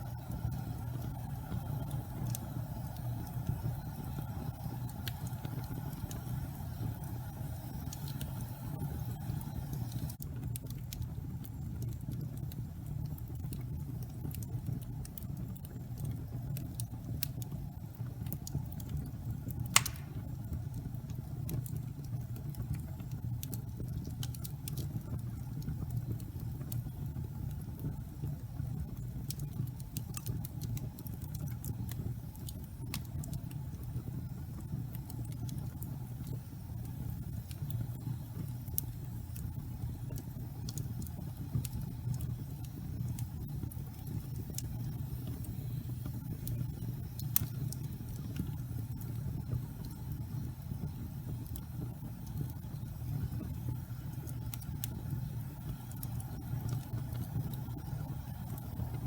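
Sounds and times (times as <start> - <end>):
fire crackling and popping: 0.0 - 59.0
wood fire rumbling: 0.0 - 59.0.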